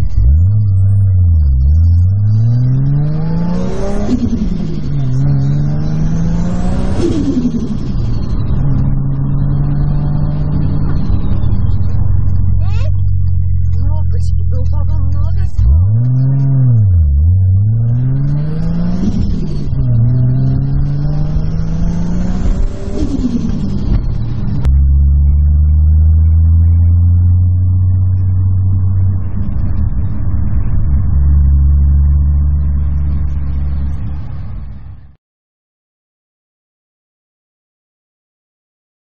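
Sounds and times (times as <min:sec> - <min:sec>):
car engine revving: 0:00.0 - 0:35.1
steady engine drone: 0:00.0 - 0:35.1.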